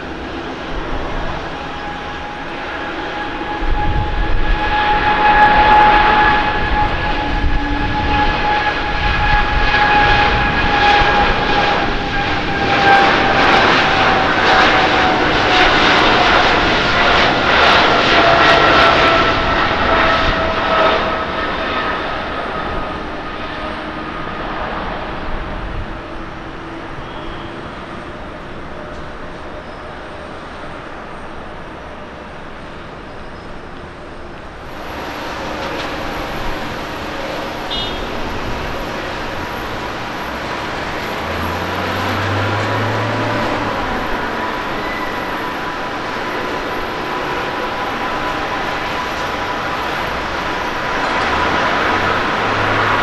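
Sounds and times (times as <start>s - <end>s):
jet roar with whine: 0.0s - 53.0s.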